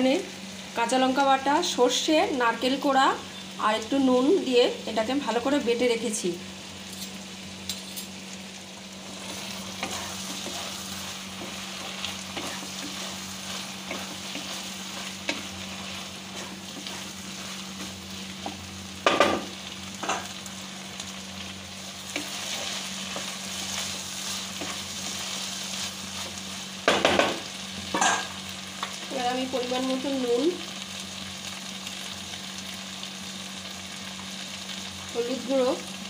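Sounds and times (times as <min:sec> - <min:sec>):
food sizzling in a wok: 0:00.0 - 0:36.0.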